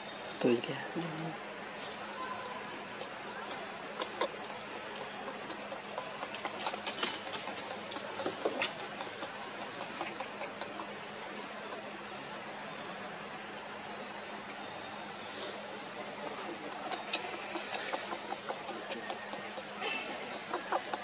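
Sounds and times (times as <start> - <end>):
pulsing insect chorus: 0.0 - 21.0.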